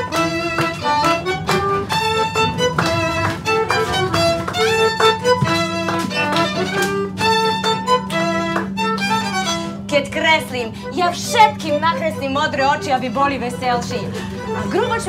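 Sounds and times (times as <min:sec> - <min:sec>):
steady low drone: 0:00.0 - 0:15.0
violin melody: 0:00.0 - 0:15.0.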